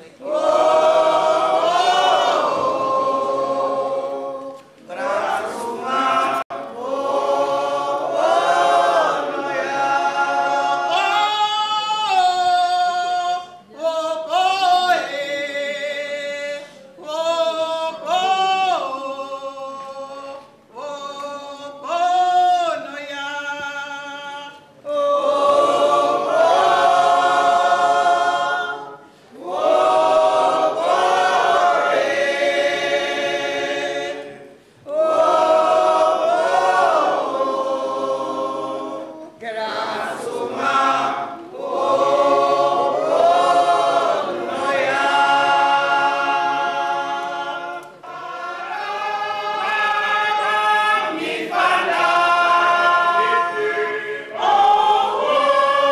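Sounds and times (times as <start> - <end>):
women singing a cappella: 0.0 - 55.9.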